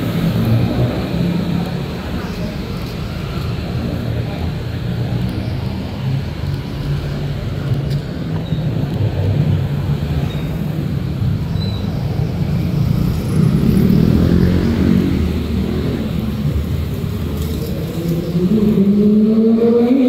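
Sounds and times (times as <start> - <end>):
car and motorcycle engines passing: 0.0 - 20.0.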